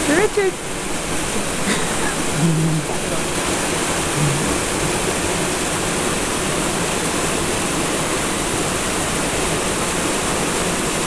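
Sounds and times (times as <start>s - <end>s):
creek rushing over boulders: 0.0s - 11.0s.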